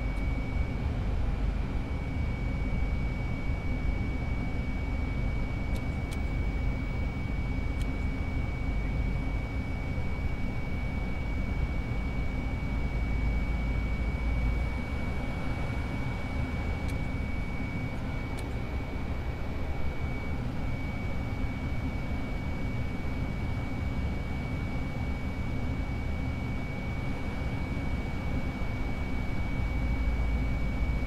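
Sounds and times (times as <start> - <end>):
high-pitched whine: 0.0 - 31.0
low rumble of airflow and engines: 0.0 - 31.0.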